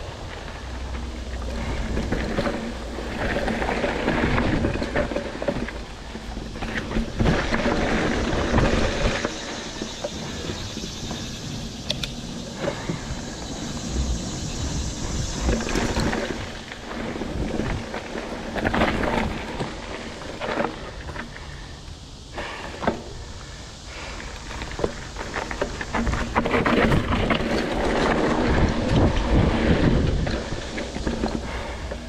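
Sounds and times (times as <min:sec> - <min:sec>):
bike rattling over bumps: 0:00.0 - 0:32.0
bike tyres rolling over dirt: 0:00.0 - 0:32.0
wind rumbling on microphone: 0:00.0 - 0:32.0.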